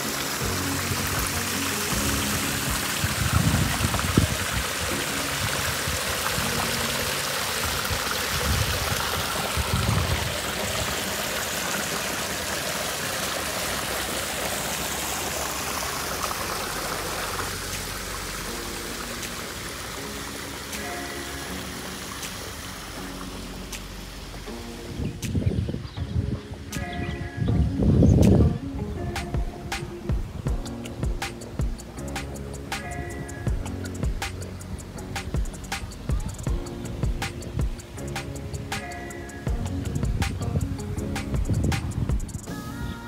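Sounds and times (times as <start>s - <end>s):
waterfall splashing over rocks: 0.0s - 25.4s, 29.2s - 42.1s.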